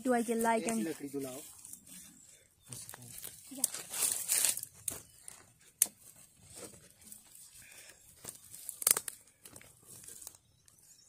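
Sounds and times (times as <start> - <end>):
twigs crackling in fire: 0.0 - 11.0.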